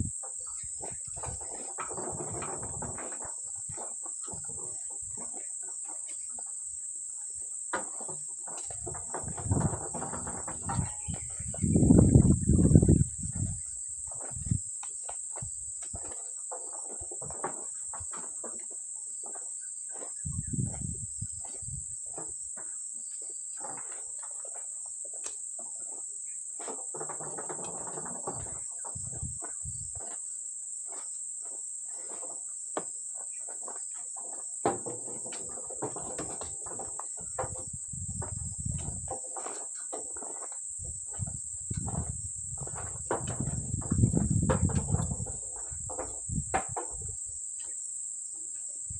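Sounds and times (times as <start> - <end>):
insect chorus drone: 0.0 - 48.9
small knocks: 0.2 - 47.8.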